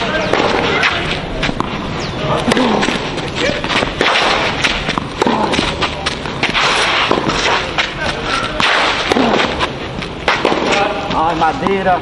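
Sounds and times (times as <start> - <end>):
rackets hitting tennis ball: 0.0 - 12.0
ball bouncing on clay: 0.2 - 1.8, 2.4 - 12.0.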